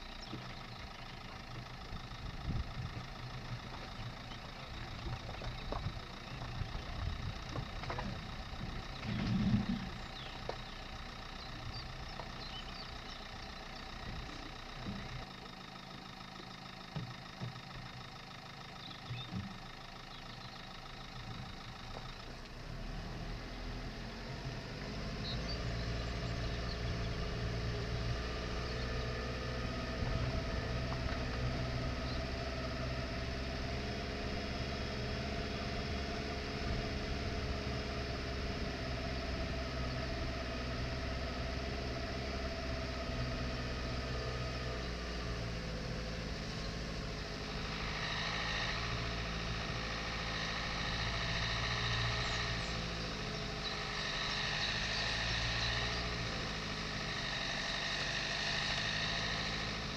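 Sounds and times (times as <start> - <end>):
diesel car engine drone: 0.0 - 59.9.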